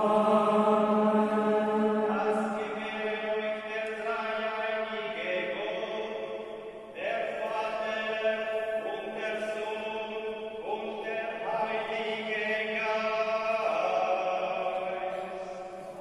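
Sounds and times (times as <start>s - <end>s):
slow sung chant: 0.0s - 16.0s.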